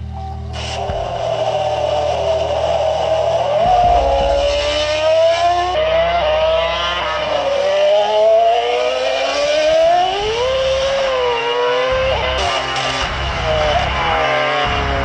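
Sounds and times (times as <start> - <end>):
racing engine revving: 0.0 - 15.0.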